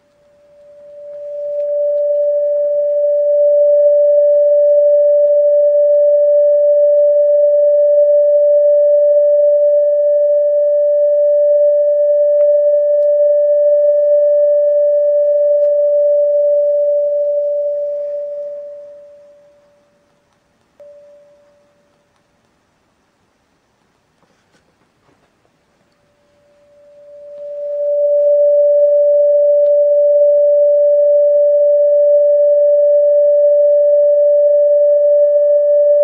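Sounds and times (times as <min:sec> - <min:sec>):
pure mid-pitched tone: 0:00.0 - 0:20.1, 0:20.8 - 0:22.2, 0:25.9 - 0:36.0.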